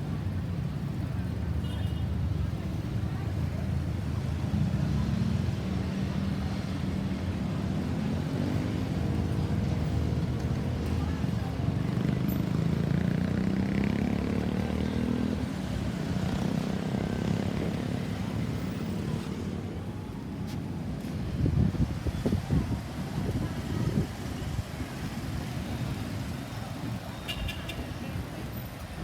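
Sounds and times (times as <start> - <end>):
road noise rumble: 0.0 - 29.0.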